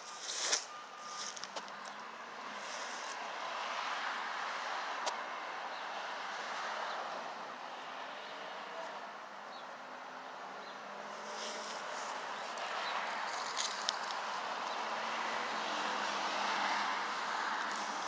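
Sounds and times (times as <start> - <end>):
vehicle passing by: 0.7 - 18.0.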